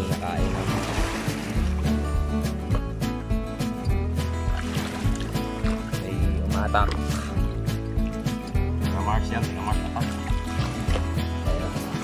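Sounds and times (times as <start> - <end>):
low beat: 0.0 - 11.9
music with held tones: 0.0 - 12.0.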